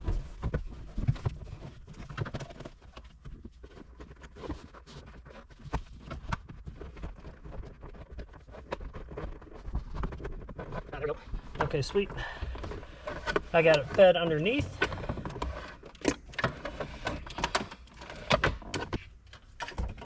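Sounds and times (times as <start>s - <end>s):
cable scraping and rustling: 0.0s - 20.0s.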